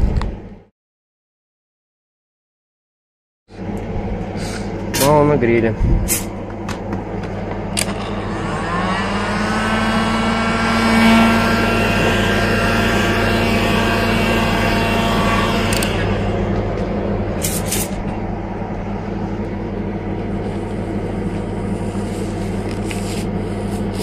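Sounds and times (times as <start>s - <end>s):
heat gun fan whine: 3.5s - 24.0s.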